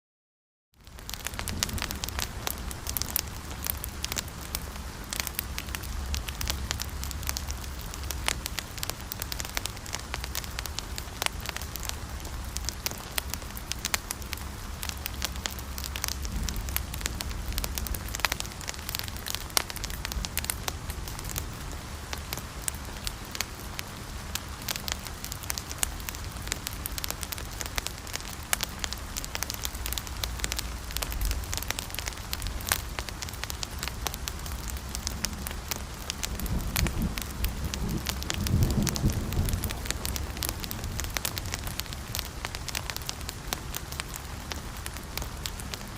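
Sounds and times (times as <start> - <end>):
wood fire crackling: 0.8 - 45.9.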